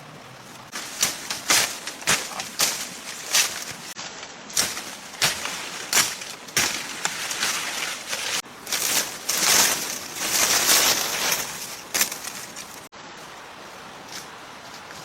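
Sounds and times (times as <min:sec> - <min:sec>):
rustling scraping noise: 0:00.5 - 0:12.9.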